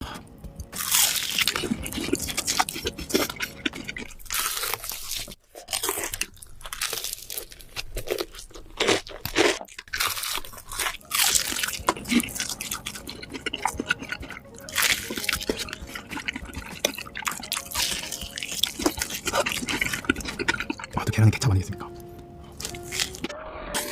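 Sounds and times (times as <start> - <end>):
crunchy bites and chewing: 0.5 - 21.4, 22.5 - 23.9.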